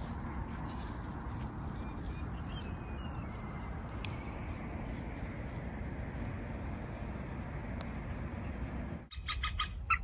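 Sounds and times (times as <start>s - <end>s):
low outdoor rumble: 0.0s - 10.0s
small birds chirping: 0.0s - 10.0s.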